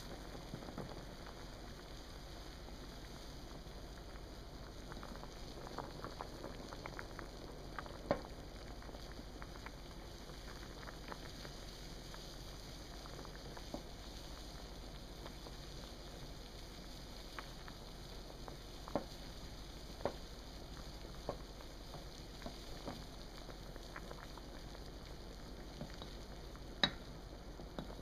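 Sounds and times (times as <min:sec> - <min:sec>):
water boiling bubbling: 0:00.0 - 0:28.0.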